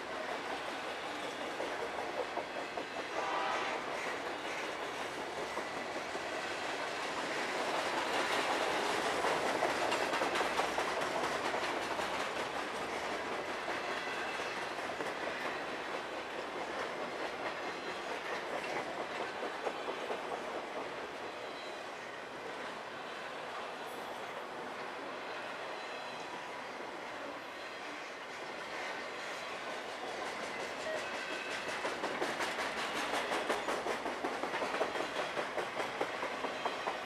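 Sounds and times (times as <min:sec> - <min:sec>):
freight train wheels clattering: 0:00.0 - 0:22.4, 0:27.8 - 0:37.0.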